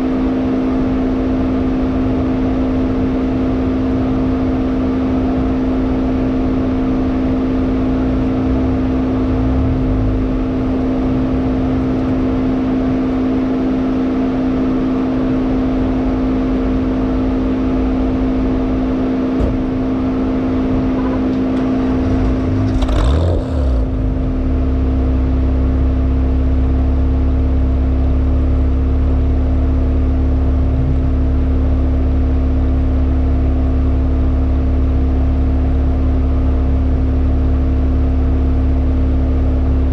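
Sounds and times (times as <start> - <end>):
car engine drone inside cabin: 0.0 - 39.9
deep steady rumble: 0.0 - 39.9.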